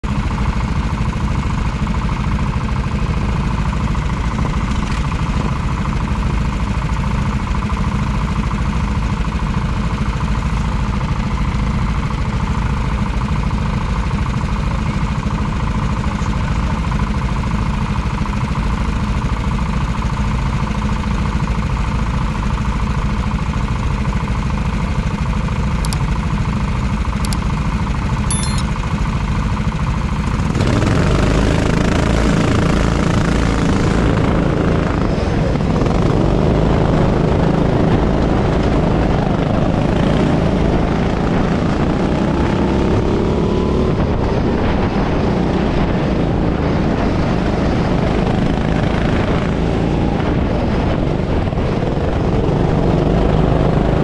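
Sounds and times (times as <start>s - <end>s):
kart engine idling: 0.0s - 54.0s.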